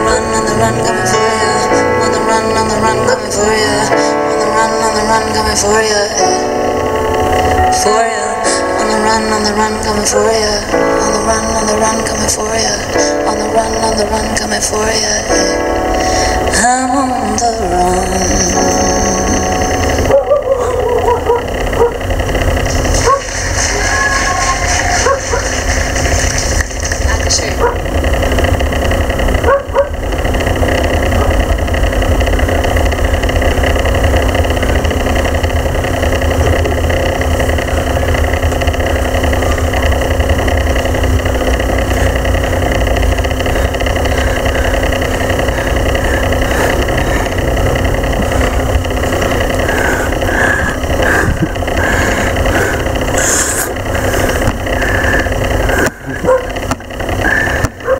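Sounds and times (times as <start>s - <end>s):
mechanical drone: 0.0s - 57.9s.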